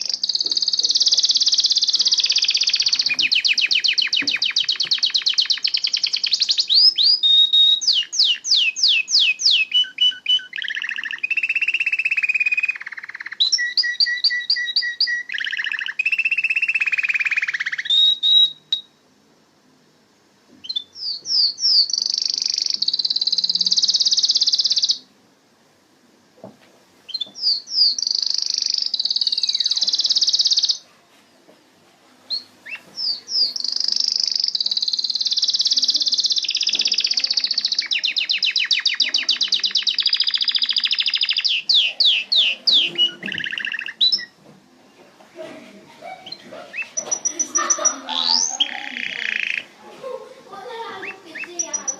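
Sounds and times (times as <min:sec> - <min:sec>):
canary singing trills: 0:00.0 - 0:19.0, 0:20.6 - 0:25.1, 0:27.1 - 0:30.9, 0:32.3 - 0:45.0, 0:46.0 - 0:51.9.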